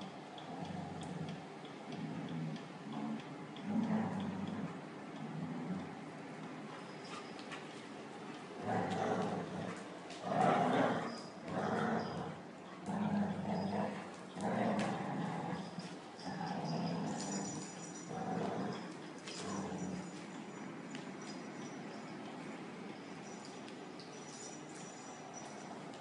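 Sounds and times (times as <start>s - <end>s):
dogs growling in play: 0.0s - 7.7s, 8.4s - 22.8s.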